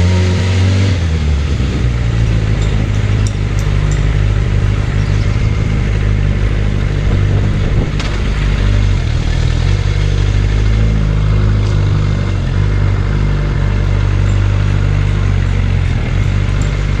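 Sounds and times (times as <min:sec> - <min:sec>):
motorcycle engine running: 0:00.0 - 0:17.0
steady rushing noise: 0:01.0 - 0:17.0.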